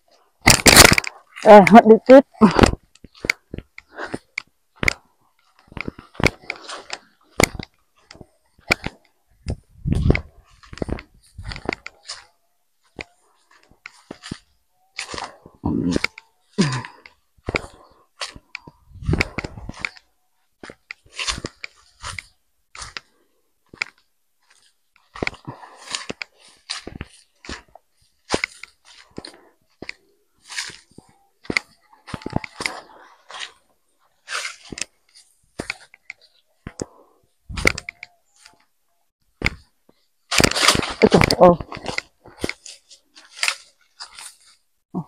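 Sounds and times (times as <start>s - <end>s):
footsteps crunching on dry ground: 0.0s - 44.8s
leaves and grass rustling: 0.1s - 36.8s, 39.4s - 44.6s.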